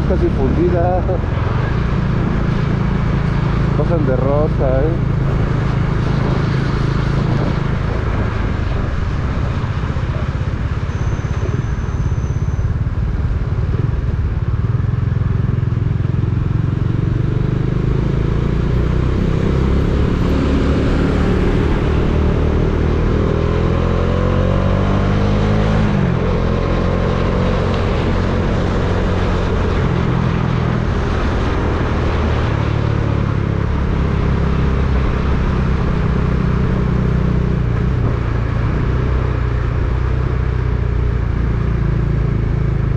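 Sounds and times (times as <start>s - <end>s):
motorcycle engine running: 0.0s - 42.9s
road and wind noise: 0.0s - 42.9s.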